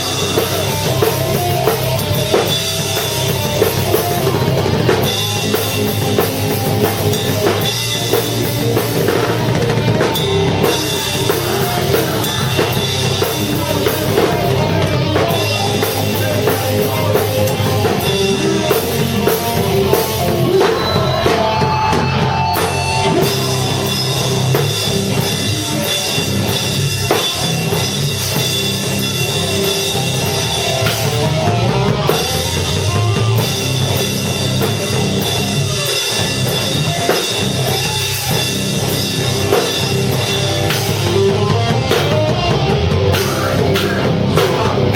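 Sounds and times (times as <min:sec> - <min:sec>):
drum kit: 0:00.0 - 0:44.9
live rock band playing: 0:00.0 - 0:44.9.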